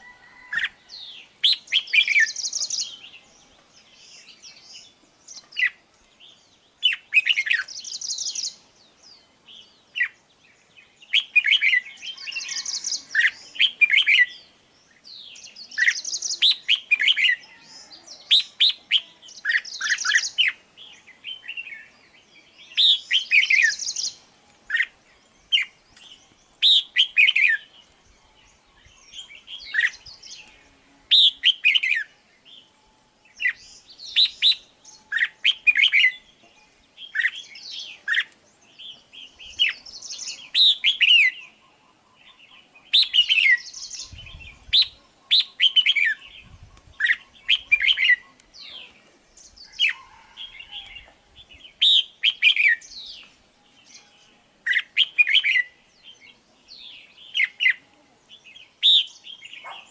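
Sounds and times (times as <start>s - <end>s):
bird chirping song: 0.0s - 59.9s.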